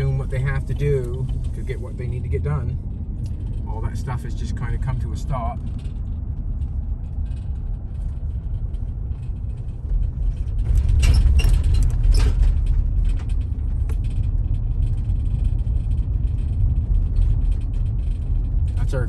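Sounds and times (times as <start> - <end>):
sharp clicks and rustles: 0.0 - 19.0
truck engine and road rumble: 0.0 - 19.0.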